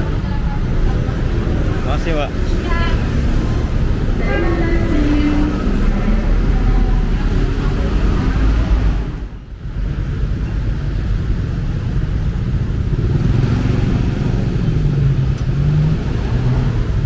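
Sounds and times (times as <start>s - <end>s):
bus engine rumbling: 0.0s - 17.0s
road noise: 0.0s - 17.0s.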